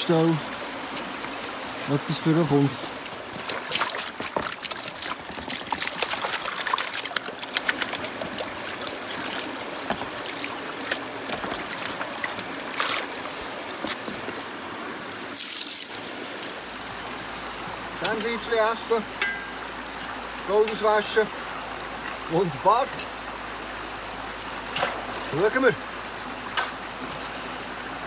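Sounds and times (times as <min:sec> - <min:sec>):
creek running: 0:00.0 - 0:28.0
water splashing and trickling: 0:00.0 - 0:28.0.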